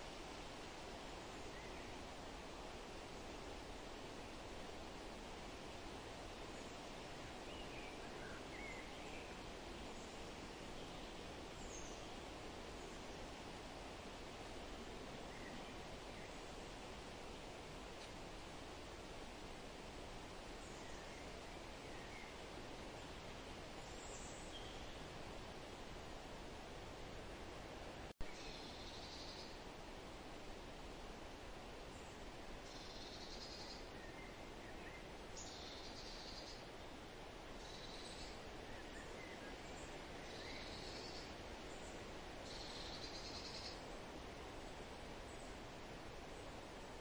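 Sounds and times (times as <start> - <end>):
faint outdoor background noise: 0.0 - 47.0.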